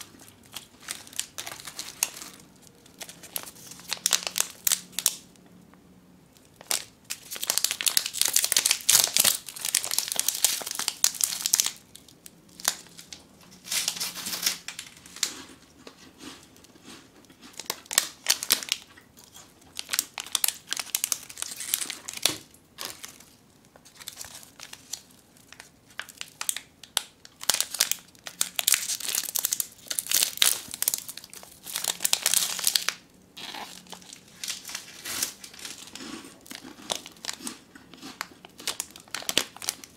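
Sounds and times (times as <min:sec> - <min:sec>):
plastic wrappers crinkling and tearing: 0:00.0 - 0:05.2, 0:06.3 - 0:15.6, 0:16.7 - 0:39.9.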